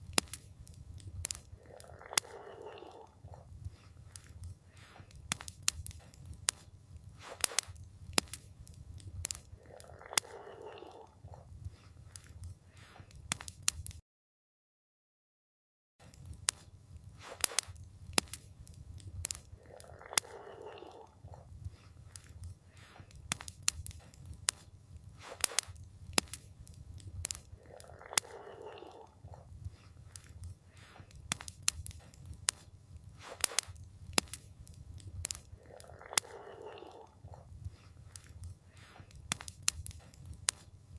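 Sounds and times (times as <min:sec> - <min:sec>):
low fire rumble: 0:00.0 - 0:13.9, 0:16.1 - 0:40.9
campfire crackling: 0:00.0 - 0:14.0, 0:16.0 - 0:40.9.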